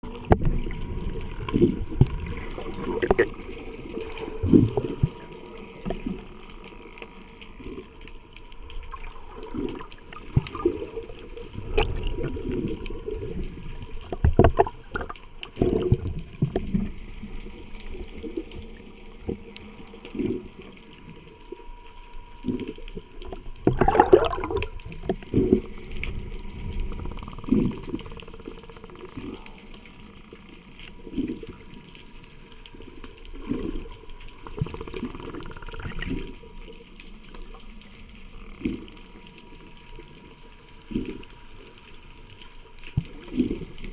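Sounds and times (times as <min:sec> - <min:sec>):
water sloshing and bubbling: 0:00.0 - 0:43.9.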